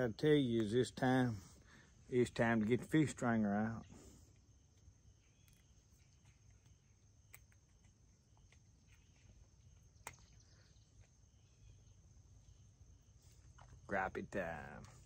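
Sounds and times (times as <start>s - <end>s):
faint insect trill: 0.0s - 15.0s.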